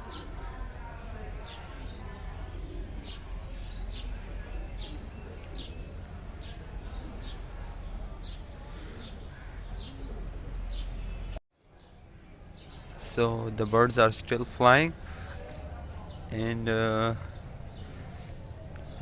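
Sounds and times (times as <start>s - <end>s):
low outdoor background rumble: 0.0s - 19.0s.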